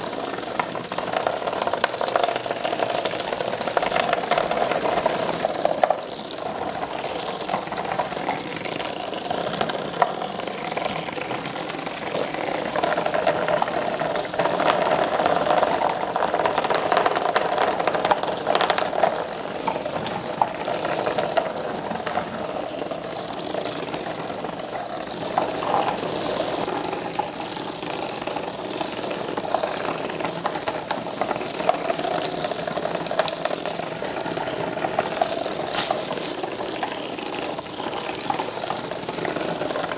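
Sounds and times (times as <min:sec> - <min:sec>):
toys clicking against cardboard: 0:00.0 - 0:39.9.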